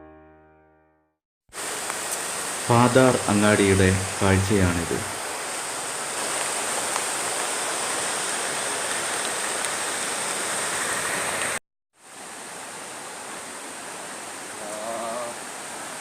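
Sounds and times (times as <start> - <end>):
flowing water rushing: 1.6 - 16.0.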